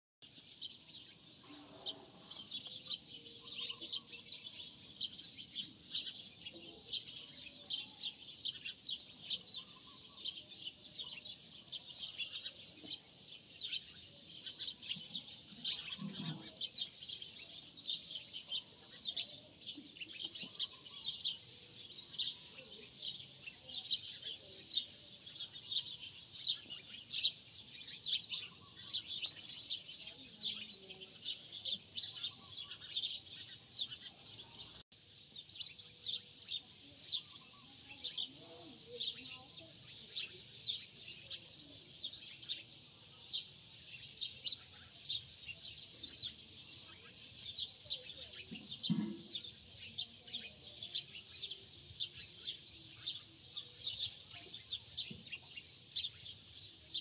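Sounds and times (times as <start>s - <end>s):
birds chirping: 0.2s - 57.0s.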